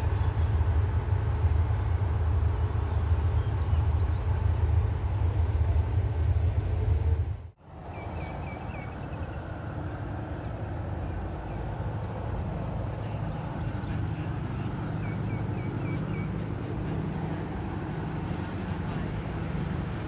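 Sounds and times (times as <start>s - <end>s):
loud low train rumble: 0.0s - 20.0s
steady engine rumble: 0.0s - 20.0s.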